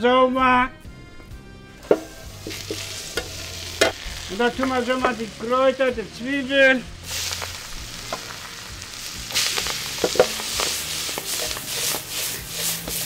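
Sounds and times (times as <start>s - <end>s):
onions sizzling in butter: 1.7s - 13.0s.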